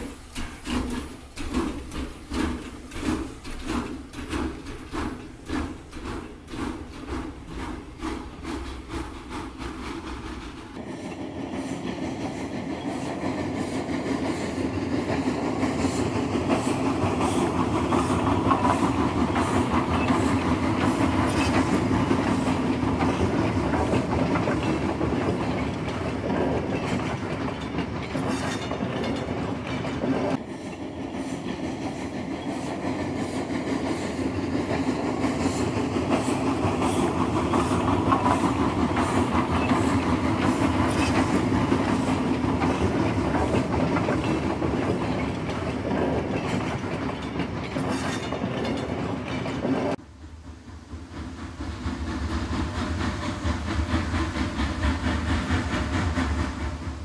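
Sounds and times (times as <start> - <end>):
wheels clacking over rail joints: 0.0 - 50.0
train rumbling on rails: 0.0 - 57.0.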